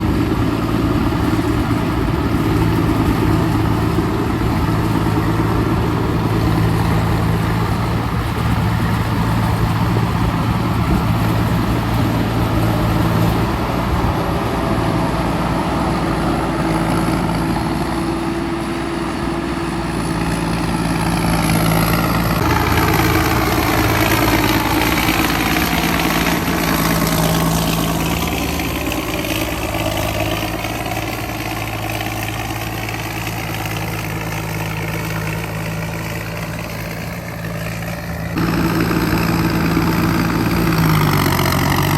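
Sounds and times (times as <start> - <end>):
tilling machine engine humming: 0.0 - 41.9.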